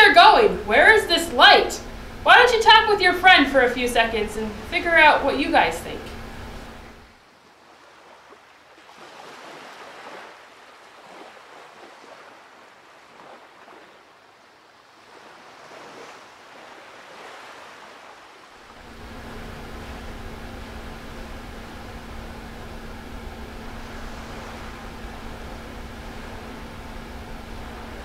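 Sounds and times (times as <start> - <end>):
ocean waves washing in: 0.0 - 28.0.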